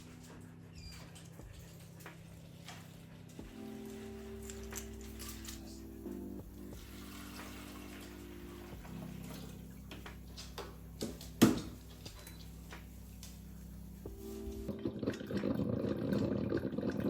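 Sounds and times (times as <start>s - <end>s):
low steady hum: 0.0s - 17.0s
running water: 2.5s - 17.0s.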